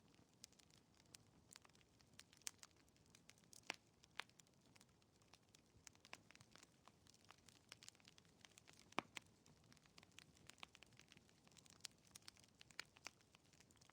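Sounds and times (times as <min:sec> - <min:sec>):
wood fire crackling: 0:00.0 - 0:13.9.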